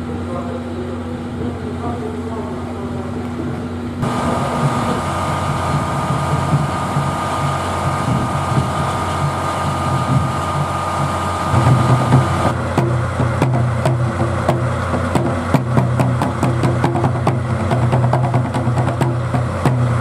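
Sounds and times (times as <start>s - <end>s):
low machinery hum: 0.0s - 20.0s
steady hiss with whine: 0.0s - 20.0s.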